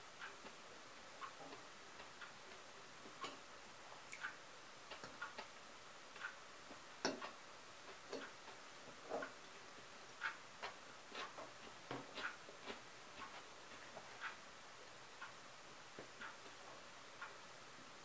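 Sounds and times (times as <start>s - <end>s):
clock ticking: 0.0s - 3.5s, 4.1s - 17.6s.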